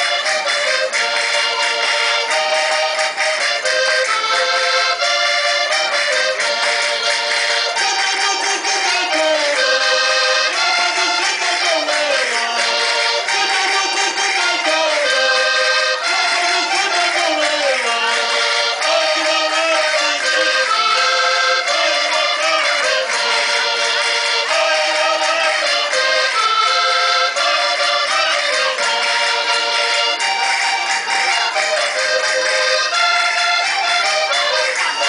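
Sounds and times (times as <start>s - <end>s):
accordion folk dance music: 0.0s - 35.0s.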